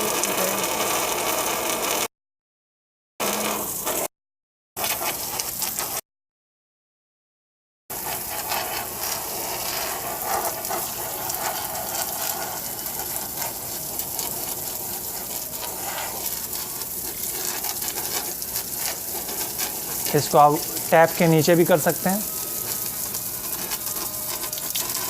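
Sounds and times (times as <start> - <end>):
hose water spraying on mesh filter: 0.0 - 2.1, 3.2 - 4.1, 4.8 - 6.0, 7.9 - 25.0.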